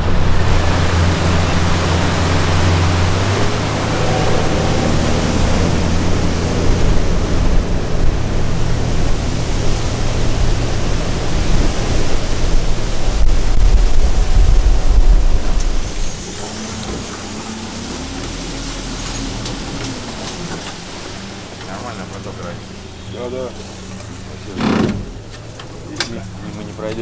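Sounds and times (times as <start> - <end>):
loud steady rushing noise: 0.0 - 27.0
low steady hum: 0.0 - 27.0.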